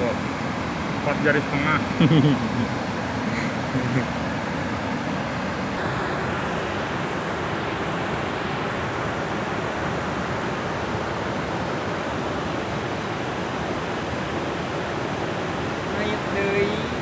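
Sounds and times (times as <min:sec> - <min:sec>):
water rushing through a dam: 0:00.0 - 0:17.0.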